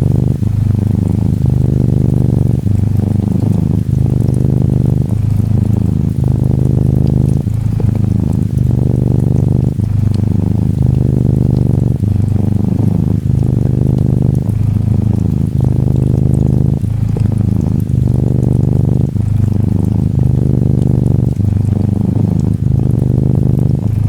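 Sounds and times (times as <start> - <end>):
cat purring: 0.0 - 24.0
gentle rain patter: 0.0 - 24.0.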